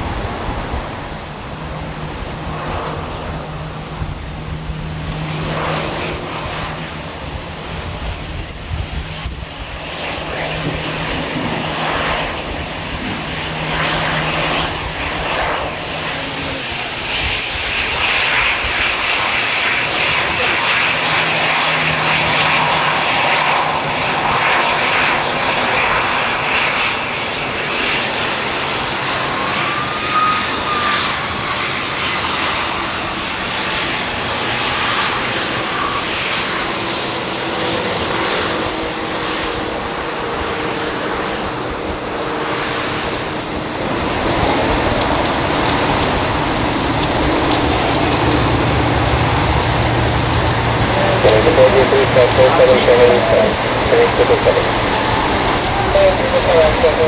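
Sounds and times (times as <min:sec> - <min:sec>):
aircraft engine drone: 0:00.0 - 0:57.0.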